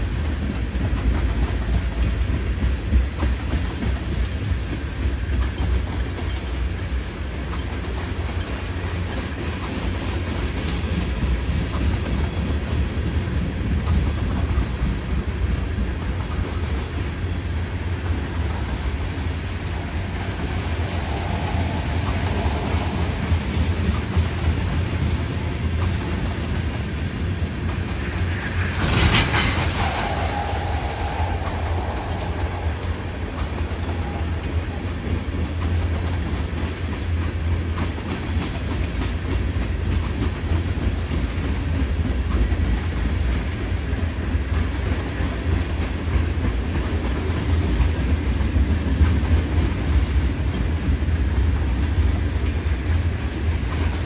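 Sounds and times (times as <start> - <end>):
train rumbling past: 0.0 - 54.0.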